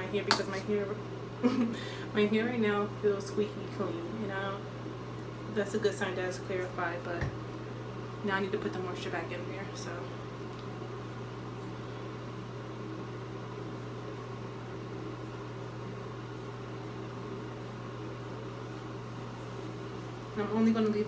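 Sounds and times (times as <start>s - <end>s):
low hum with faint hiss: 0.0s - 21.0s.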